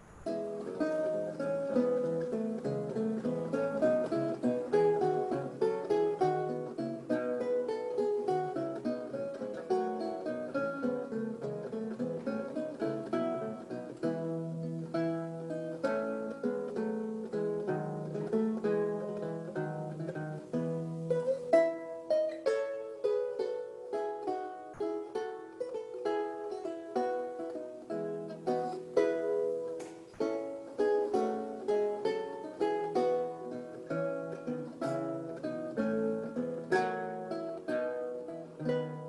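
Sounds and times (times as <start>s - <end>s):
solo lute playing: 0.0s - 39.0s.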